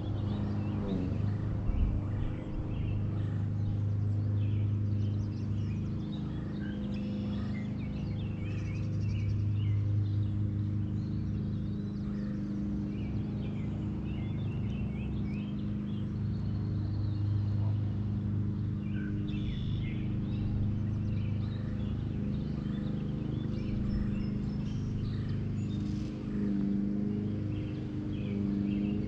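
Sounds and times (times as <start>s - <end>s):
birds chirping: 0.0s - 29.0s
motor droning: 0.0s - 29.0s.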